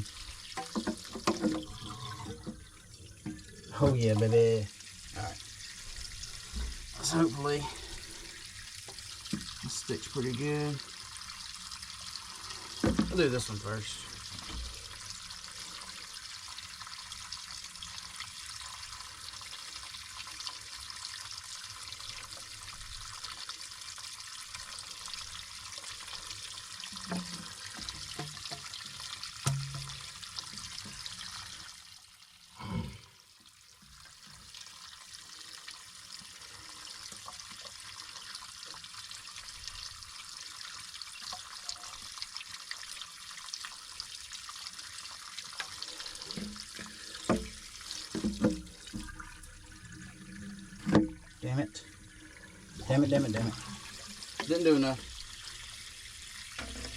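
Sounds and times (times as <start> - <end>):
water running from pipe: 0.0 - 56.9.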